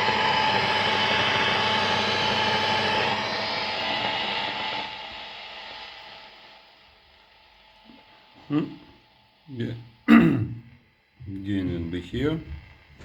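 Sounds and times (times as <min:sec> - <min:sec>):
guitar amp hiss and hum: 0:00.0 - 0:13.0.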